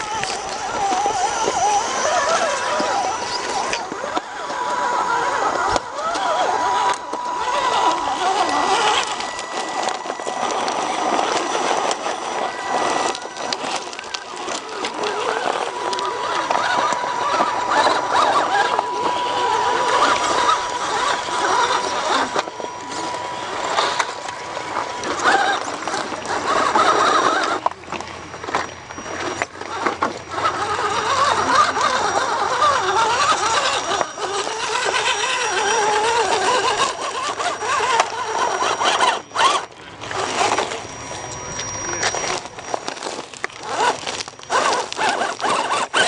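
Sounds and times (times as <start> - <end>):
electric motor whining: 0.0 - 46.0.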